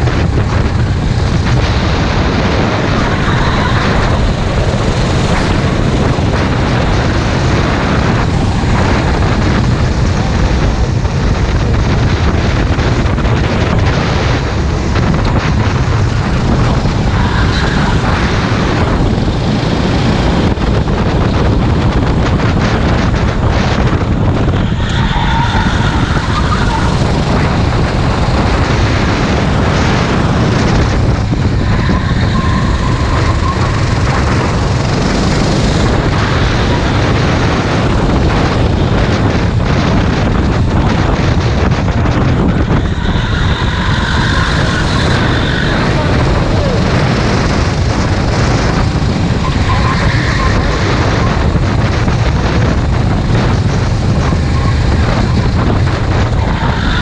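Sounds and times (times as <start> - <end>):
kart engine running: 0.0 - 57.0
wind noise on microphone: 0.0 - 57.0.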